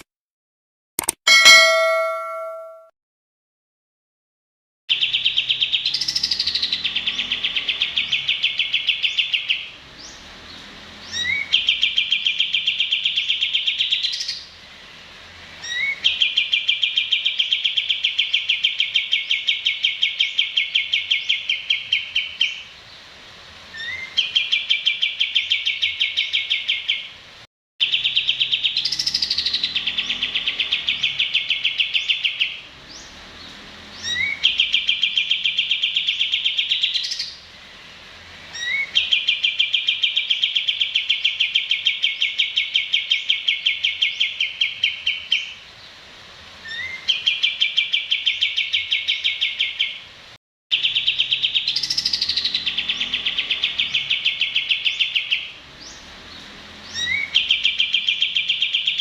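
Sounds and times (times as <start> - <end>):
songbird chirp and rattling trill: 1.3 - 2.8, 4.9 - 59.0.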